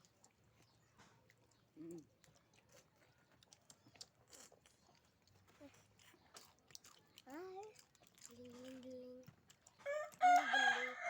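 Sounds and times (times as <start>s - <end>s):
people chewing: 0.0s - 11.0s
small clicks of eating: 0.0s - 11.0s.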